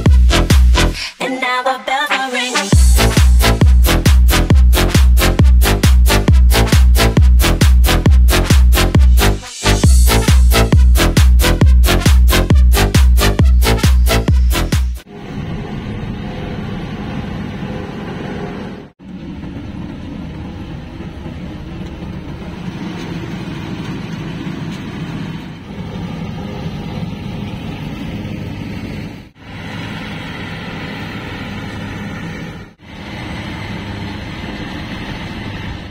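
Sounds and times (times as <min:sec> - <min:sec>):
forage harvester drone: 0:02.7 - 0:35.9
tractor working: 0:02.8 - 0:35.9.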